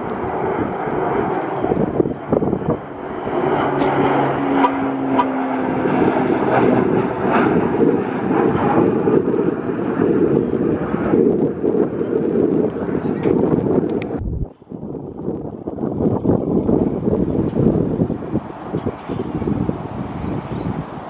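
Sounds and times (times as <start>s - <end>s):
propeller hum: 0.0s - 21.0s
turboprop plane passing overhead: 0.0s - 21.0s.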